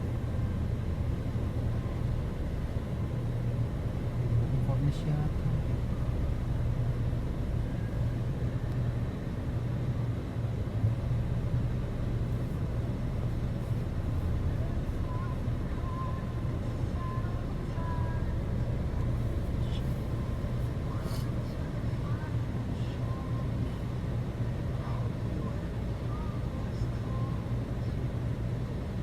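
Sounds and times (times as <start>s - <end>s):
motor vehicle rumble: 0.0s - 29.0s.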